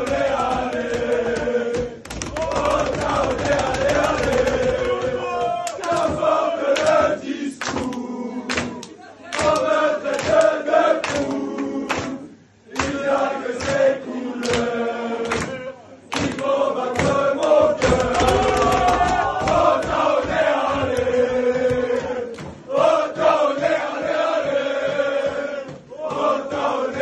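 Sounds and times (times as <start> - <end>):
crowd chanting a song: 0.0 - 27.0
sharp rhythmic hits: 0.0 - 27.0.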